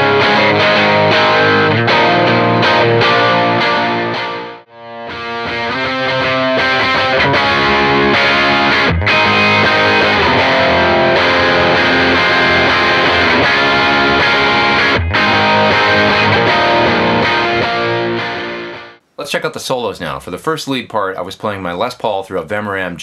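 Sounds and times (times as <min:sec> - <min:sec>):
overdriven electric guitar chords: 0:00.0 - 0:19.0.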